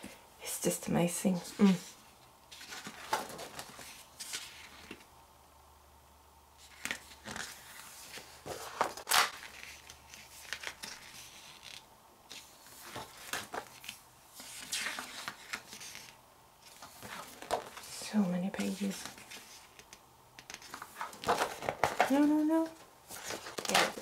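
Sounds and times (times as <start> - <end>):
pages turning: 1.4 - 5.1, 6.6 - 24.0.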